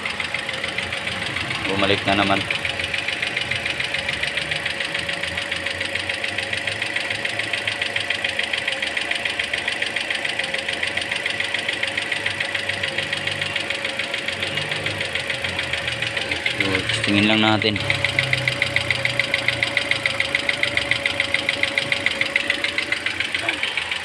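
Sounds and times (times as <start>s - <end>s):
car engine idling with knocking: 0.0s - 24.0s.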